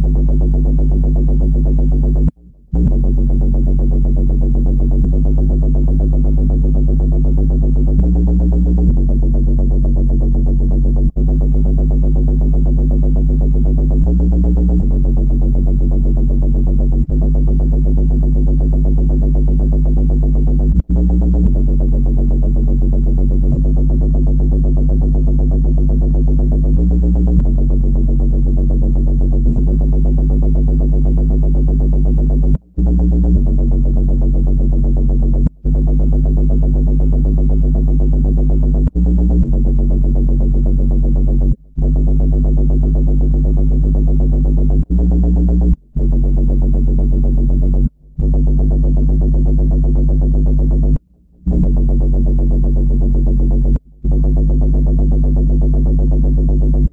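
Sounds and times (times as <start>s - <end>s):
electronic hum of low tones: 0.0s - 56.9s.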